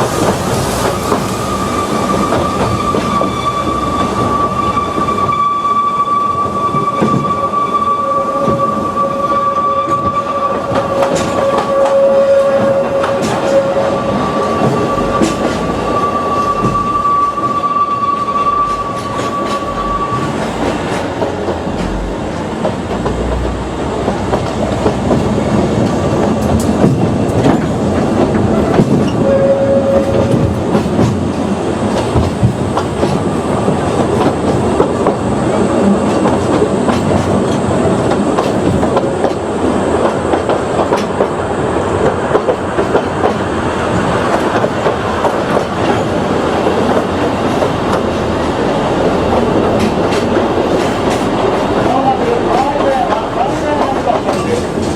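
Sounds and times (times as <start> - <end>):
train wheels clicking over rail joints: 0.0 - 5.4, 9.8 - 17.6, 18.2 - 54.9.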